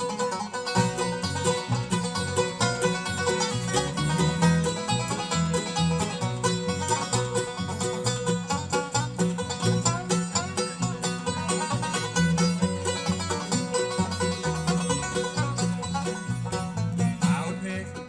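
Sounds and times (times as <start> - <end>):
bluegrass band playing: 0.0 - 18.0
quick picked string notes: 0.0 - 18.0
moving bass line: 0.6 - 18.0.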